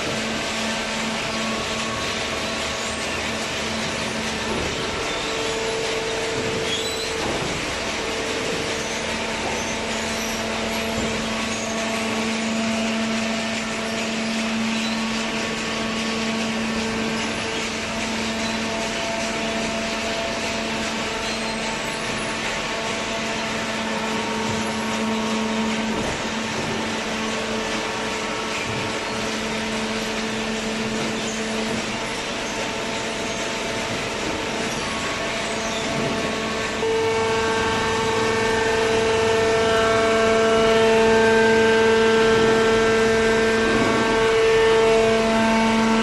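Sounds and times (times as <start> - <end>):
baling press machine hum: 0.0 - 46.0
constant drone: 0.0 - 46.0.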